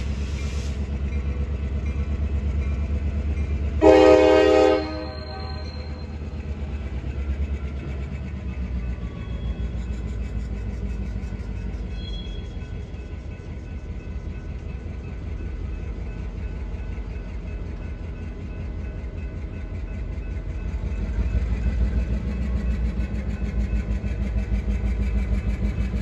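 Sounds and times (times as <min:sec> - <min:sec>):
diesel locomotive rumble: 0:00.0 - 0:26.0.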